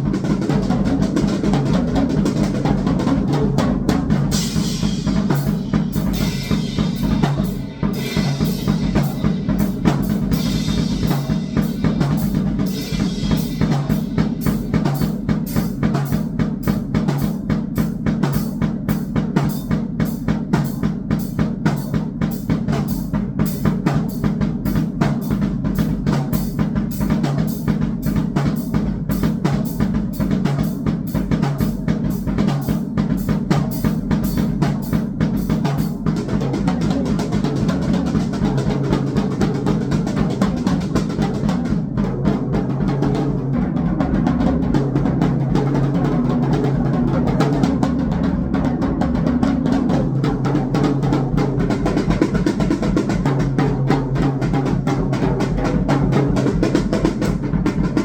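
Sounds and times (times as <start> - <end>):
fast dense drumming: 0.0 - 58.0.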